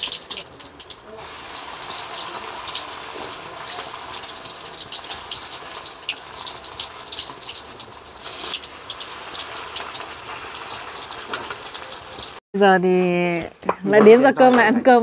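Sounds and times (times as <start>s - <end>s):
spring rolls sizzling in hot oil: 0.0s - 12.4s.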